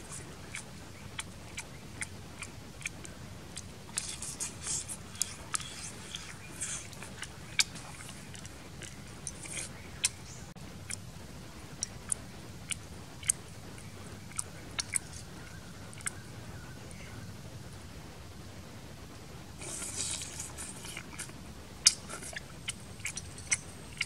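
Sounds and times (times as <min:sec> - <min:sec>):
person chewing with wet smacking: 0:00.0 - 0:17.2, 0:19.6 - 0:24.0.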